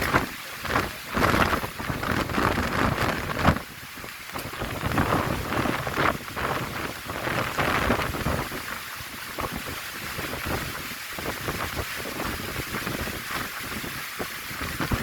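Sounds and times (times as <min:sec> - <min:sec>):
heavy rain: 0:00.0 - 0:15.0
wind buffeting microphone: 0:00.0 - 0:15.0.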